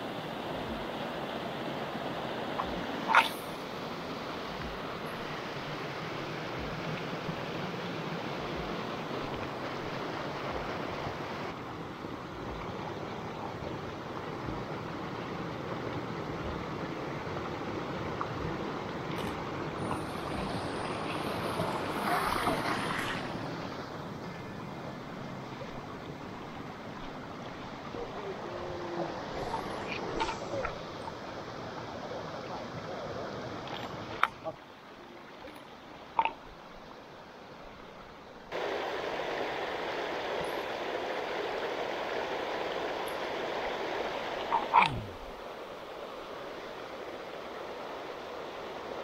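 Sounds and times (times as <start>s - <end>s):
water rushing along stone channel: 0.0s - 49.0s.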